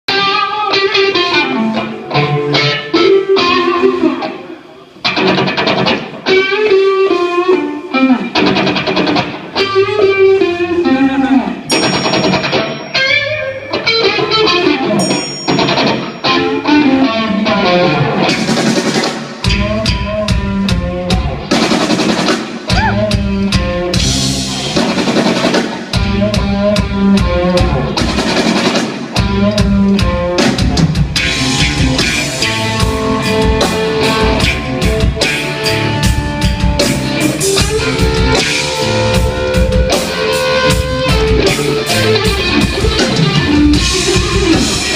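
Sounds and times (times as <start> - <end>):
electric guitar: 0.1 - 44.9
rock band playing: 0.1 - 44.9.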